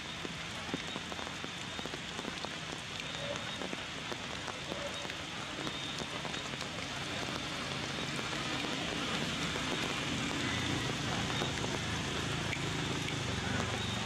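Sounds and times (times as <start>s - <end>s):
steady hiss with patter of ticks: 0.0s - 14.0s.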